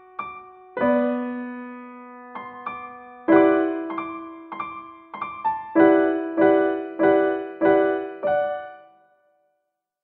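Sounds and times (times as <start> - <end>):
piano notes and chords: 0.0 - 9.5.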